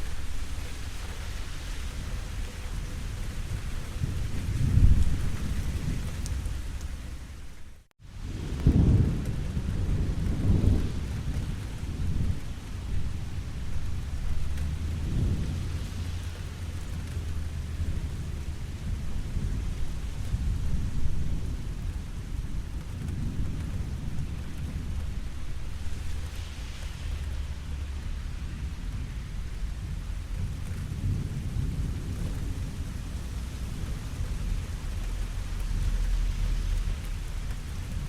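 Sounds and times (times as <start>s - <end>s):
low thunder rumbling: 0.0s - 38.0s
steady rain falling: 0.0s - 38.0s.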